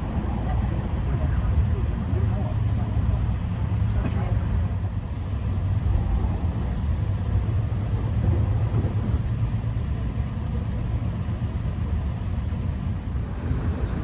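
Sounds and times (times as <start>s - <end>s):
train wheels and motors rumbling: 0.0s - 14.0s.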